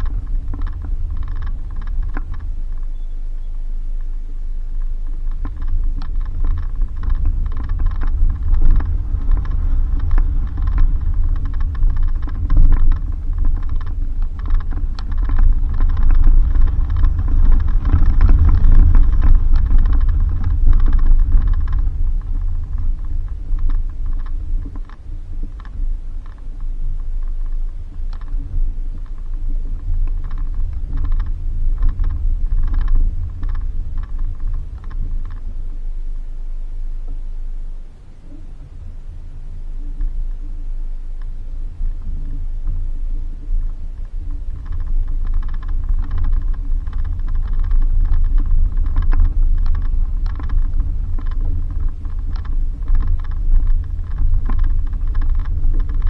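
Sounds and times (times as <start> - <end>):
rattling and clicking: 0.0 - 3.4, 4.0 - 56.0
vehicle rumbling on dirt road: 0.0 - 56.0.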